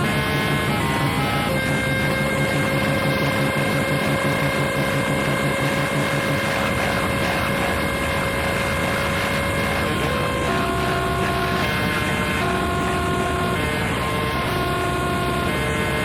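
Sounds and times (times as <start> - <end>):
distorted noise wall: 0.0 - 16.0
steady electronic tones: 0.0 - 16.0.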